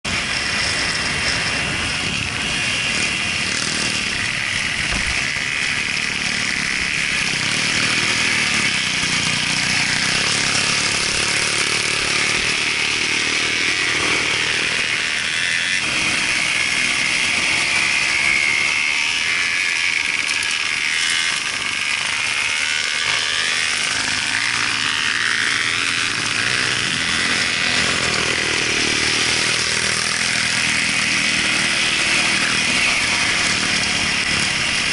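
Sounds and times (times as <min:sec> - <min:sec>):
dirt bike engine running: 0:00.0 - 0:34.9.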